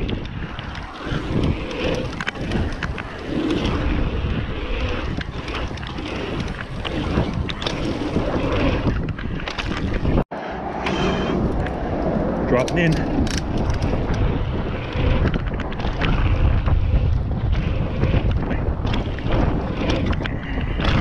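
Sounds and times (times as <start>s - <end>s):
bike rattling over bumps: 0.0s - 10.2s, 12.5s - 21.0s
tyre noise on dirt: 0.0s - 10.2s, 12.5s - 21.0s
wind buffeting microphone: 0.0s - 21.0s.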